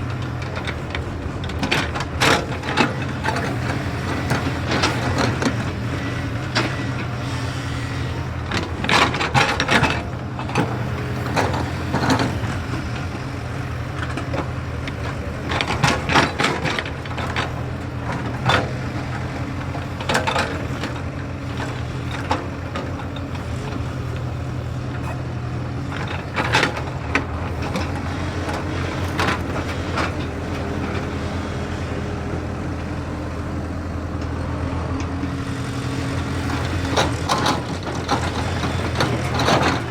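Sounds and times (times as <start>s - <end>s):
excavator bucket clanking and scraping: 0.0s - 39.9s
excavator diesel engine running: 0.0s - 39.9s.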